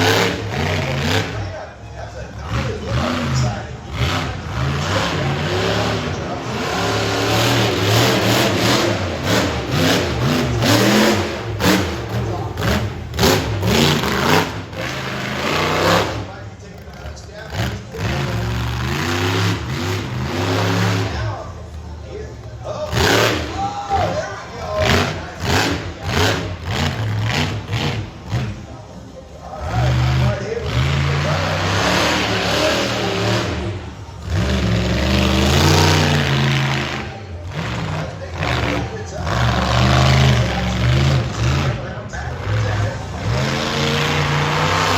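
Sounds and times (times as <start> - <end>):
monster truck engine revving: 0.0 - 44.9.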